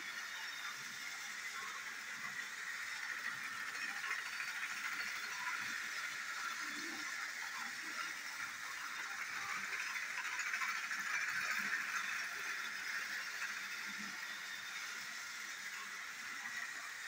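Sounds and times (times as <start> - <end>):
toy train motor whirring: 0.0 - 17.0
toy train wheels rattling: 0.0 - 17.0.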